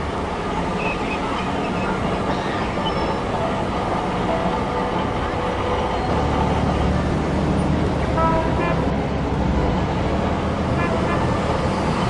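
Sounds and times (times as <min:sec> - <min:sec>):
steady traffic noise: 0:00.0 - 0:12.0.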